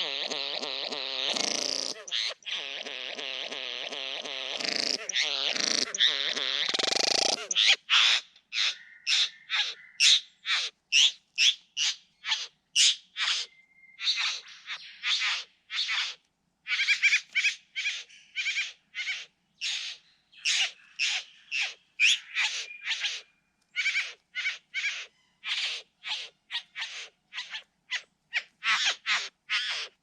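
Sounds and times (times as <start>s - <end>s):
birds rasping calls: 0.0s - 30.0s.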